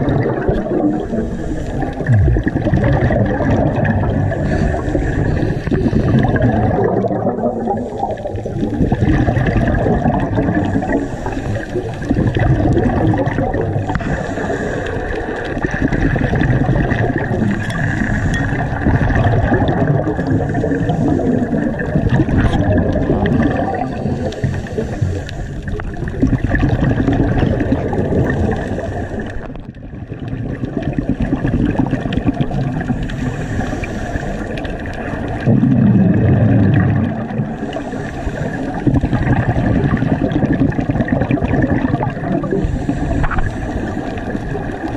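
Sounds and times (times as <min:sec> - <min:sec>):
scuba regulator breathing underwater: 0:00.0 - 0:29.7, 0:30.7 - 0:44.9
exhaled bubbles gurgling: 0:00.0 - 0:44.9.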